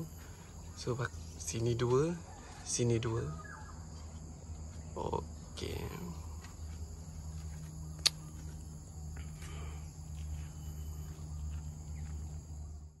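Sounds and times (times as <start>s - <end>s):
insects chirring: 0.0s - 13.0s
low steady hum: 0.0s - 13.0s.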